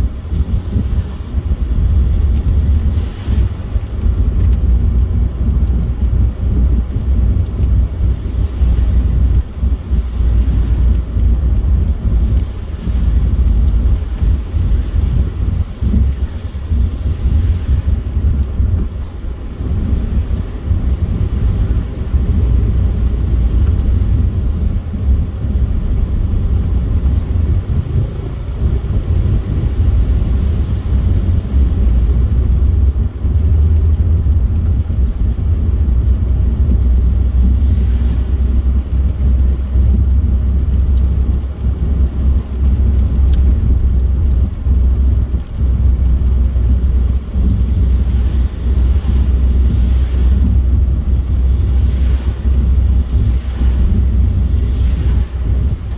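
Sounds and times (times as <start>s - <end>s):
tyre and engine rumble: 0.0s - 55.9s.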